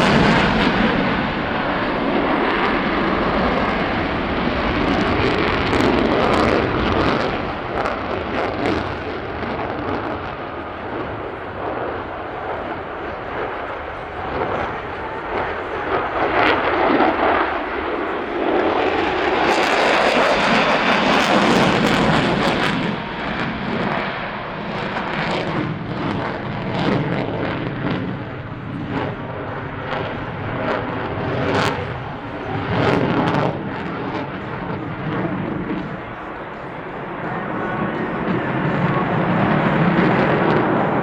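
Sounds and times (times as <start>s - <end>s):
jet engine roar with crackle: 0.0s - 41.0s.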